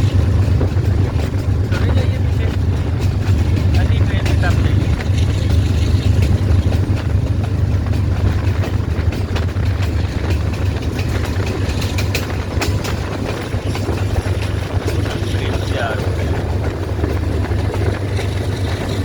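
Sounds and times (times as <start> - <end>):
locomotive engine rumble: 0.0 - 19.0.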